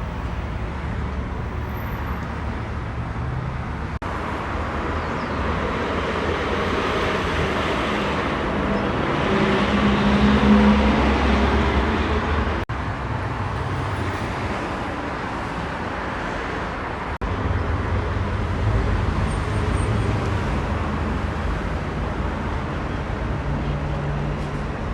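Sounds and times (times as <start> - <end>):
road traffic passing: 0.0 - 24.9.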